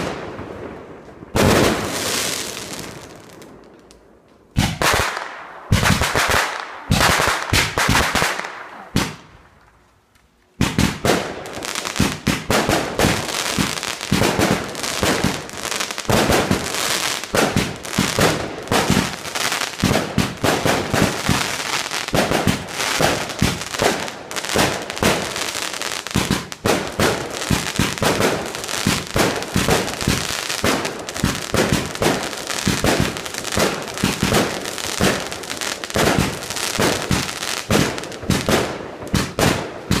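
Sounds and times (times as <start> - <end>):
fireworks bangs and crackles: 0.0 - 9.4, 10.6 - 40.0.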